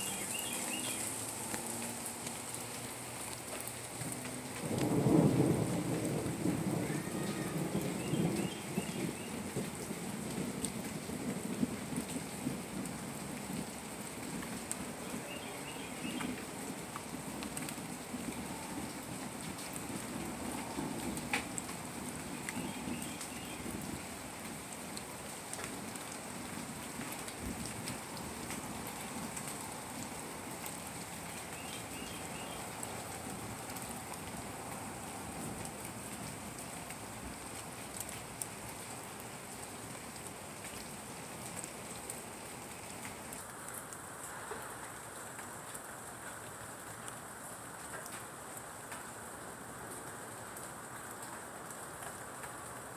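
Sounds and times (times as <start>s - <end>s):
individual raindrop ticks: 0.0s - 52.9s
steady rain on leaves: 0.0s - 52.9s.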